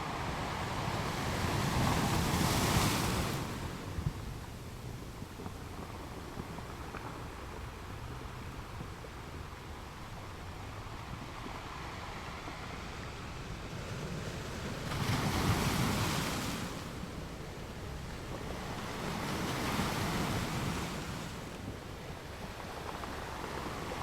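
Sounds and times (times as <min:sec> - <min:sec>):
surf hiss: 0:00.0 - 0:24.0.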